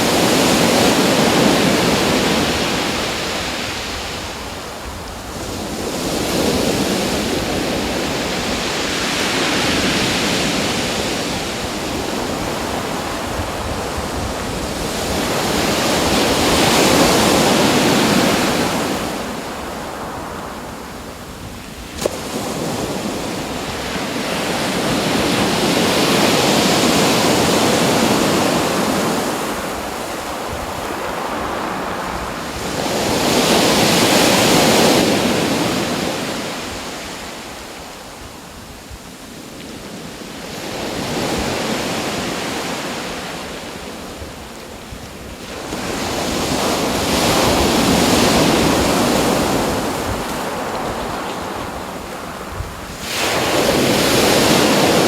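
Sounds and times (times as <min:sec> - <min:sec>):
waves breaking on a shore: 0:00.0 - 0:55.0.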